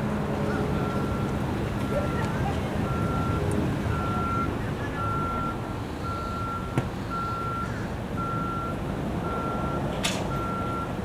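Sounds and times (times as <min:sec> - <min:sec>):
vehicle backup alarm beeping: 0:00.5 - 0:11.0.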